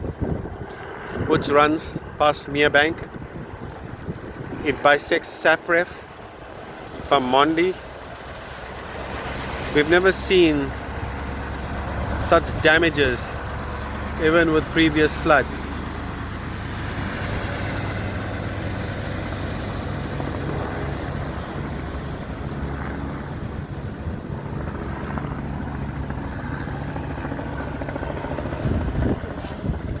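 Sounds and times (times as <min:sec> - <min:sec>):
engine hum: 0:00.0 - 0:30.0
outdoor noise: 0:00.0 - 0:30.0
wind gusts: 0:00.0 - 0:30.0.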